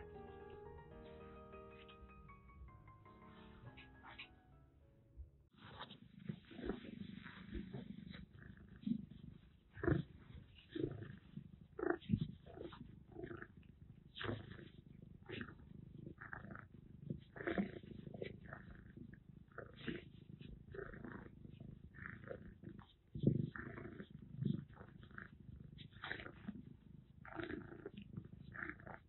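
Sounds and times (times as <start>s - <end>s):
kitten purring: 5.5s - 29.0s.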